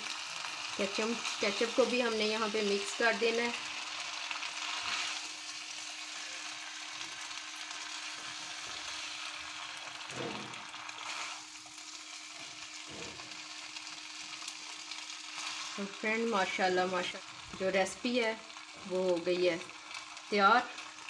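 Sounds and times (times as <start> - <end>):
pasta sizzling in frying pan: 0.0 - 21.0.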